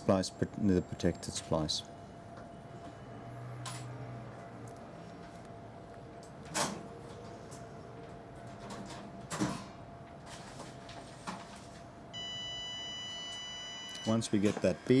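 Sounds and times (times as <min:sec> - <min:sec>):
cooling fan hum: 0:00.0 - 0:15.0.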